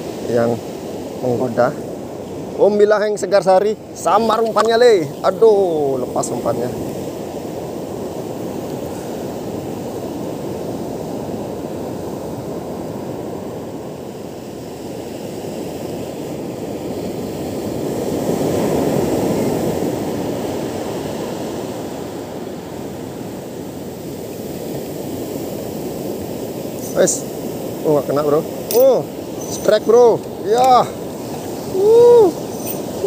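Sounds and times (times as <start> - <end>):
ocean surf breaking on beach: 0.0 - 33.0.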